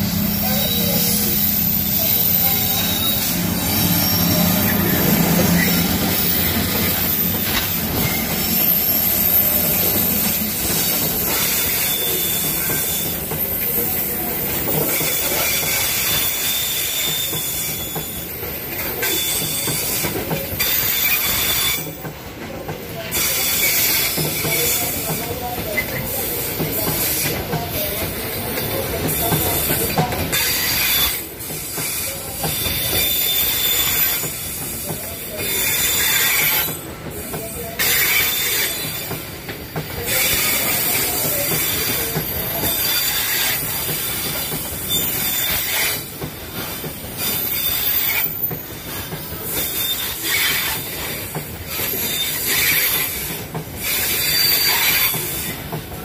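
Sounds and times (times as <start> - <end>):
rumble of wheels on track: 0.0 - 56.0
steel wheels squealing on rails: 0.0 - 56.0.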